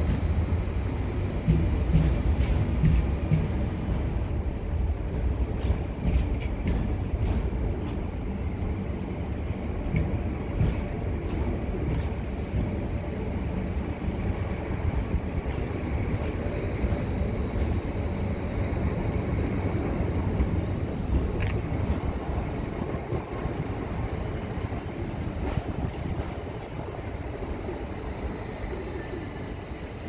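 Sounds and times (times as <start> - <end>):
train squeal: 0.0 - 30.0
train wheels rumbling on track: 0.0 - 30.0.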